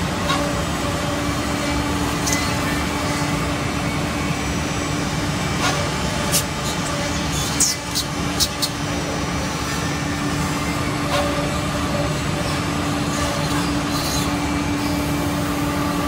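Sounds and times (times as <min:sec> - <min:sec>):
mortising machine running: 0:00.0 - 0:16.0.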